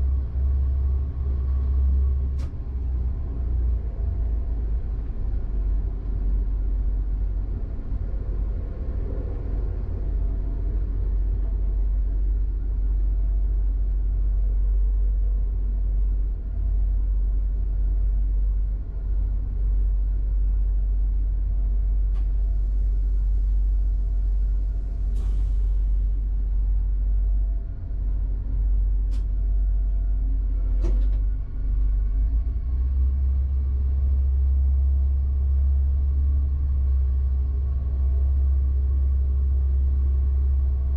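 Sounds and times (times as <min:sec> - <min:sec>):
railcar low rumble: 0:00.0 - 0:40.9.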